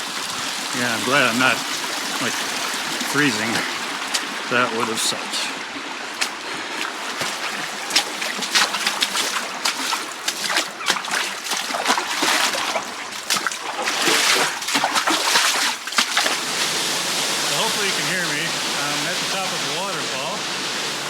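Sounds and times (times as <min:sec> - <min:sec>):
feet splashing through water: 0:00.0 - 0:21.0
stream flowing: 0:00.0 - 0:21.0.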